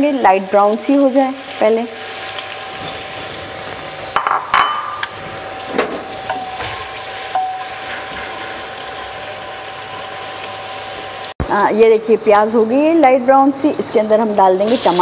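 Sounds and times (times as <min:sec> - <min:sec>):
onions sizzling in oil: 0:00.0 - 0:11.4, 0:12.7 - 0:15.0.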